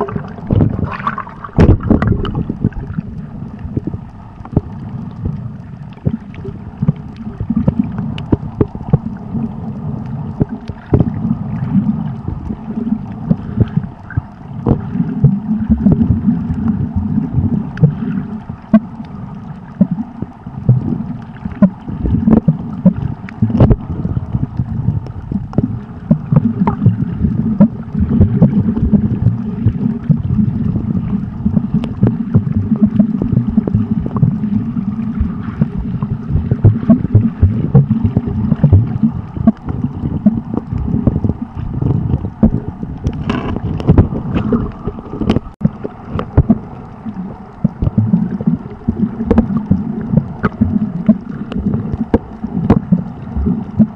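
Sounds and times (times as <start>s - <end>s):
sharp underwater clicks: 0.0s - 53.9s
underwater rumble of moving water: 0.0s - 53.9s.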